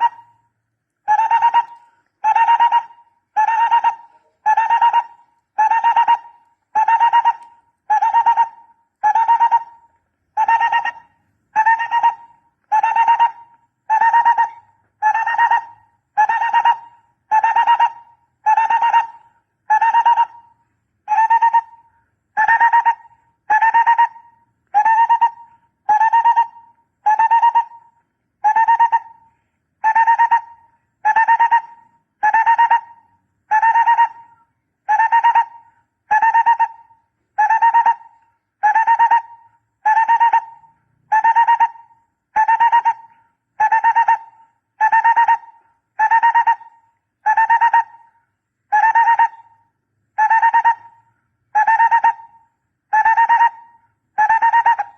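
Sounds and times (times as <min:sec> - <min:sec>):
bird pulsed throaty call: 0:00.0 - 0:54.9.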